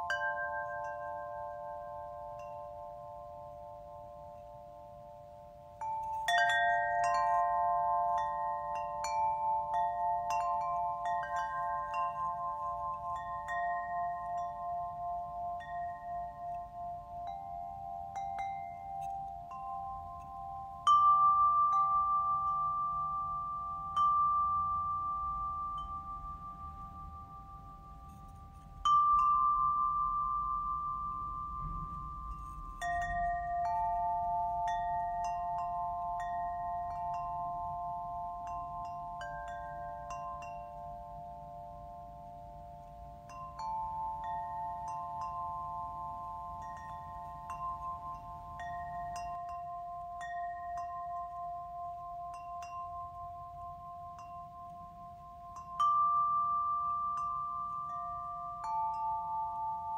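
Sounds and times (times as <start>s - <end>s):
metal chimes ringing: 0.0s - 59.9s.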